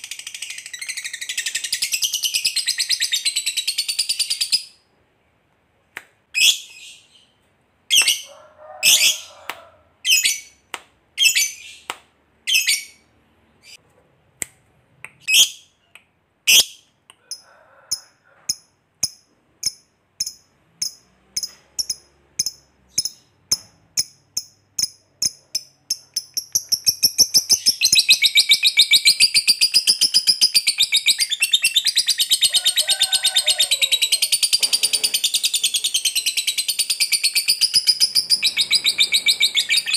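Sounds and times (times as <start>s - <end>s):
lovebird chirping and trilling: 0.0s - 4.8s, 6.3s - 9.3s, 10.0s - 10.6s, 11.2s - 13.8s, 15.2s - 15.9s, 16.5s - 17.4s, 18.5s - 32.8s, 33.9s - 39.9s.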